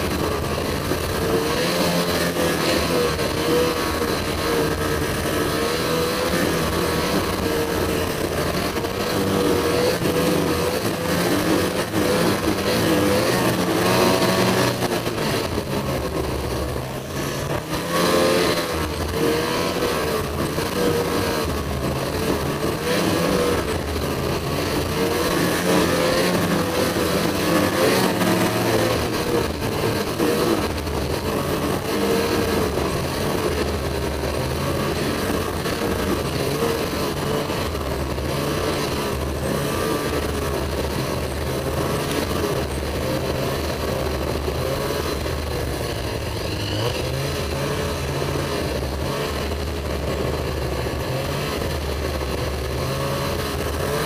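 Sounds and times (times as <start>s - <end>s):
snowmobile engine running: 0.0s - 54.0s
steady rushing noise: 0.0s - 54.0s.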